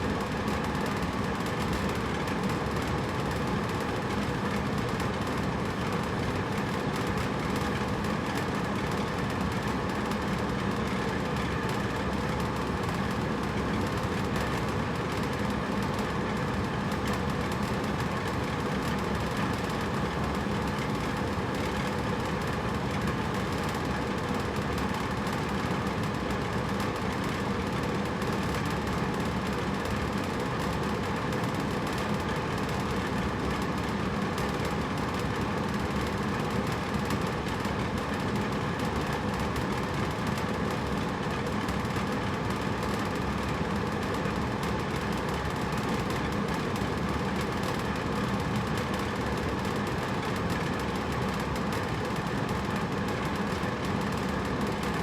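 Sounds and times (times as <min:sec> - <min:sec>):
air conditioner blowing air: 0:00.0 - 0:55.0
low mechanical hum: 0:00.0 - 0:55.0.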